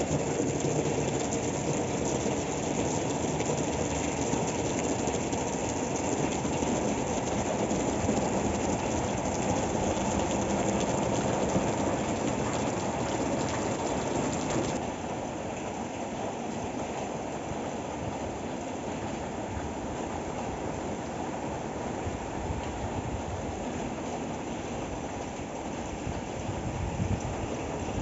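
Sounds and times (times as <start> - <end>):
heavy rain on metal roofs: 0.0 - 28.0.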